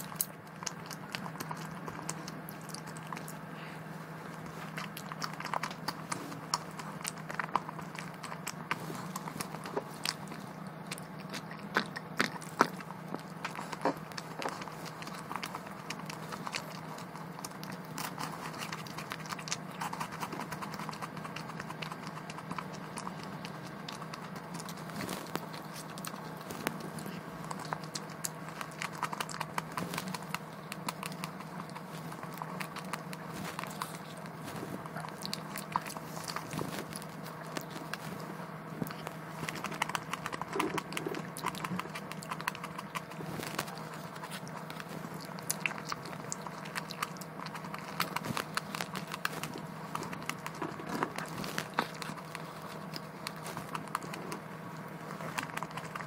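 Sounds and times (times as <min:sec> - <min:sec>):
biting and chewing: 0:00.0 - 0:56.0
steady low hum: 0:00.0 - 0:56.0.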